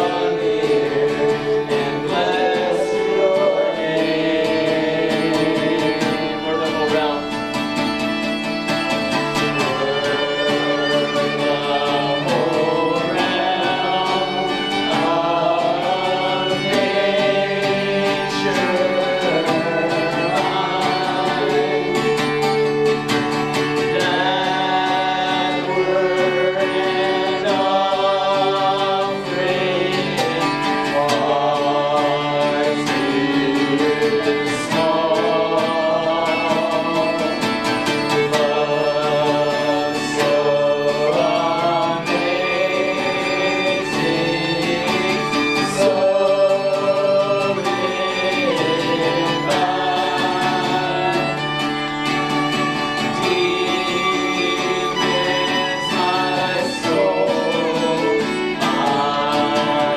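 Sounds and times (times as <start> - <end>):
acoustic guitar: 0.0 - 59.9
fiddle: 0.0 - 59.9
person singing: 0.0 - 59.9.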